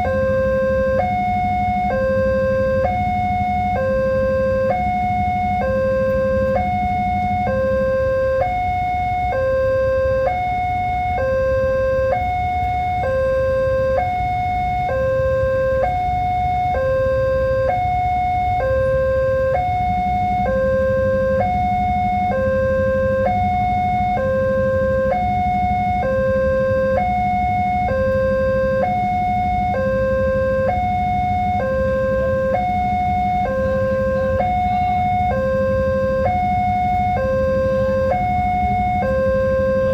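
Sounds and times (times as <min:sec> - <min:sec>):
level crossing two-tone alarm: 0:00.0 - 0:39.9
low hum: 0:00.0 - 0:39.9.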